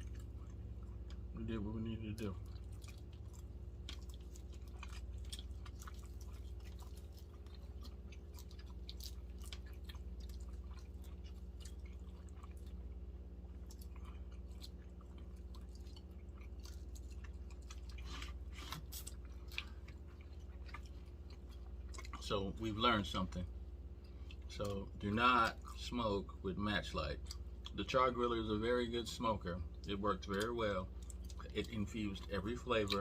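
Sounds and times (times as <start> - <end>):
low steady hum: 0.0 - 33.0
people chewing and smacking: 0.0 - 33.0.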